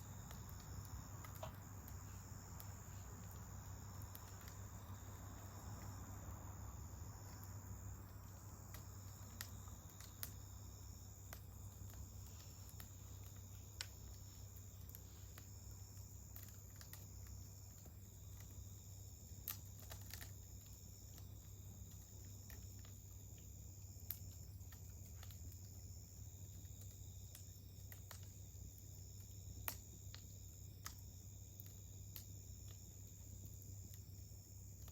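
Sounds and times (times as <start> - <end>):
campfire crackling and popping: 0.0 - 34.9
high insect trill: 0.0 - 34.9.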